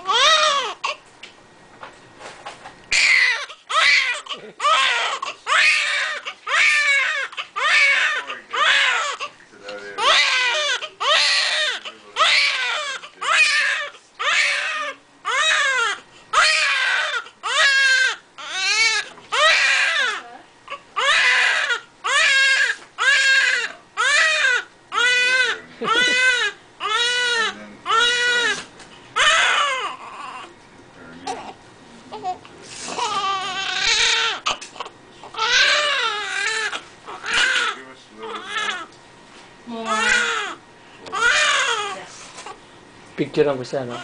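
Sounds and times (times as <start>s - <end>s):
newborn baby crying: 0.0s - 1.0s, 2.9s - 30.6s, 31.2s - 39.0s, 39.8s - 42.6s.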